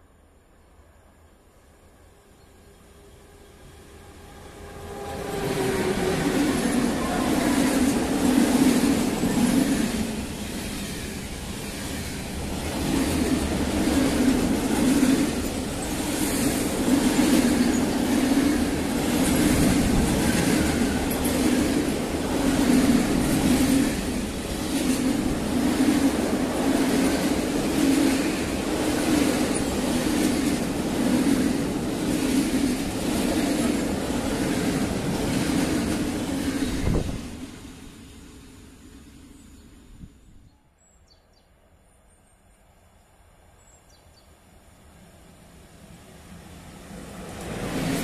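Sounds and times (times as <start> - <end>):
freight train rolling rumble: 2.7 - 40.1, 44.8 - 48.0.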